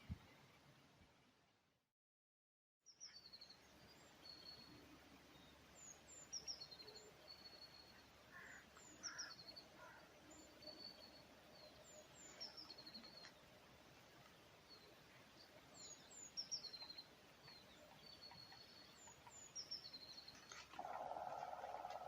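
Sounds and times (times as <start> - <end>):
faint outdoor hiss: 0.0 - 1.8, 2.9 - 22.0
small songbird chirping: 2.9 - 22.0.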